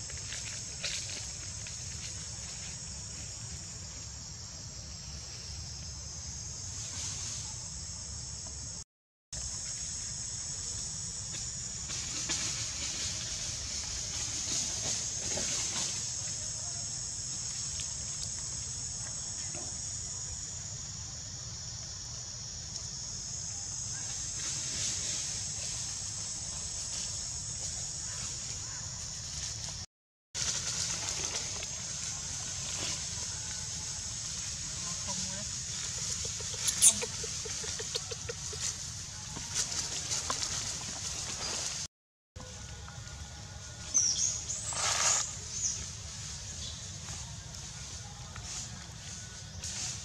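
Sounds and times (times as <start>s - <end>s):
insects chirring: 0.0s - 8.8s, 9.4s - 50.0s.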